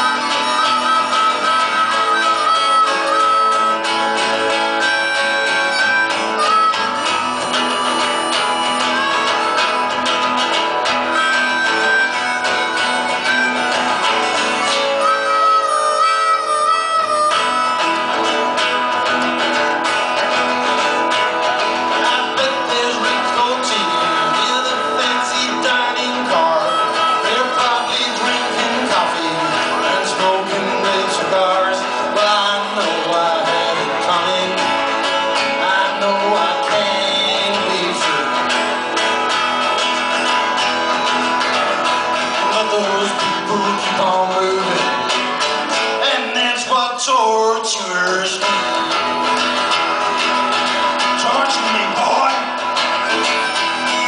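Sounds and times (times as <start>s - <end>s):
harmonica wailing: 0.0s - 54.0s
strummed acoustic guitars: 0.0s - 54.0s.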